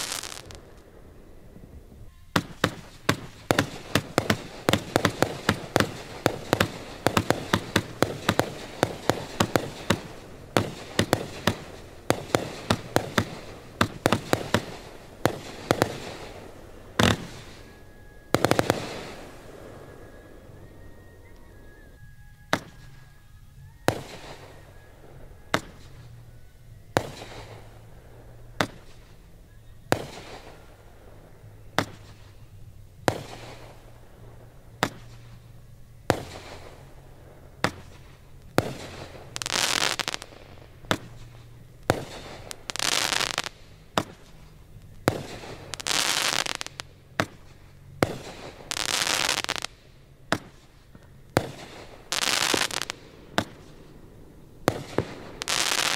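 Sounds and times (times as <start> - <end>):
fireworks bursting with sharp bangs: 0.0 - 55.9
fireworks crackling: 0.0 - 55.9.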